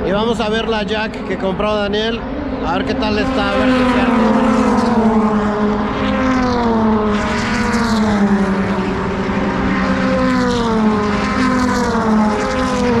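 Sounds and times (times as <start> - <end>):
drone of distant engines: 0.0 - 13.0
race cars passing by: 0.0 - 13.0.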